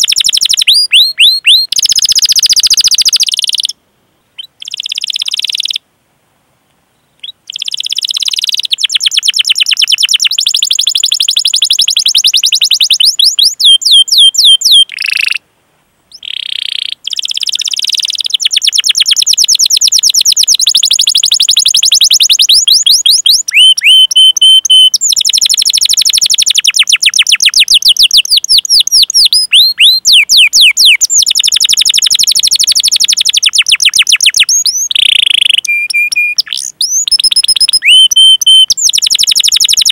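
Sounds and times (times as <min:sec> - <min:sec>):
canary singing: 0:00.0 - 0:03.8, 0:04.4 - 0:05.8, 0:07.0 - 0:15.4, 0:16.1 - 0:39.9.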